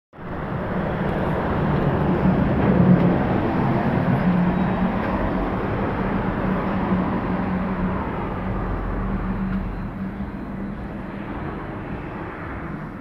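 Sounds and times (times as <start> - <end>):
road noise: 0.1 - 13.0
vehicle engine humming: 0.2 - 13.0.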